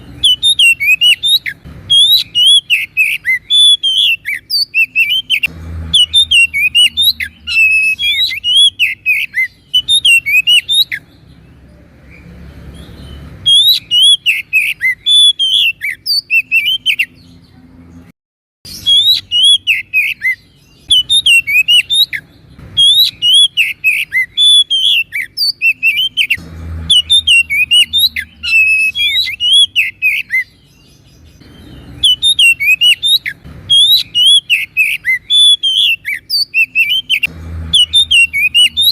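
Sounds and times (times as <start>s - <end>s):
bird singing whistled notes: 0.0s - 17.6s, 18.7s - 38.9s.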